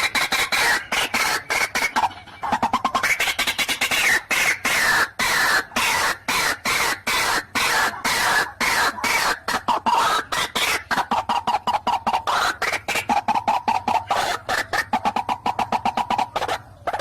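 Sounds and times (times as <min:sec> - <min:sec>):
waterhen harsh repeated call: 0:00.0 - 0:17.0.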